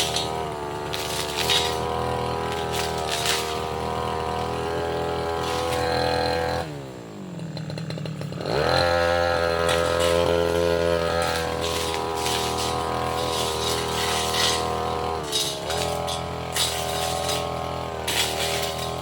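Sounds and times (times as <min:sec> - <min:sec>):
brush cutter engine revving: 0:00.0 - 0:19.0.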